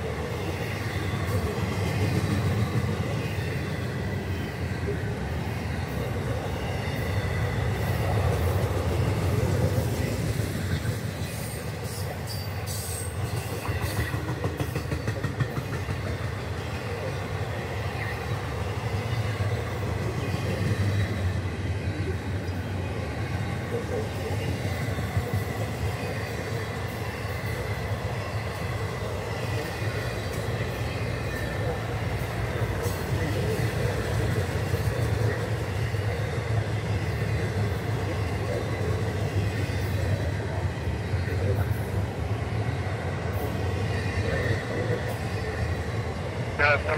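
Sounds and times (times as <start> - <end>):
freight train wheels rumbling: 0.0 - 46.9
train cars clanking: 0.0 - 46.9.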